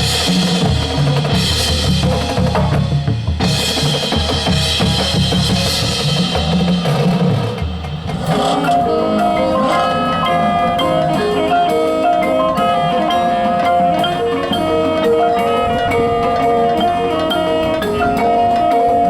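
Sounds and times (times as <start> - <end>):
mallet percussion melody: 0.0 - 19.0.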